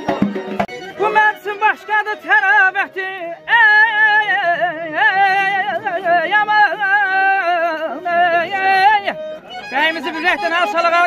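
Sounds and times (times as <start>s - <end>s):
man singing folk style: 0.9s - 11.0s.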